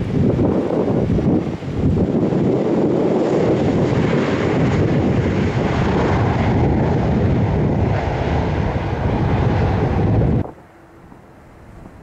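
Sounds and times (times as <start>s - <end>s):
jet engine low rumble: 0.0s - 12.0s
wind buffeting microphone: 0.0s - 12.0s.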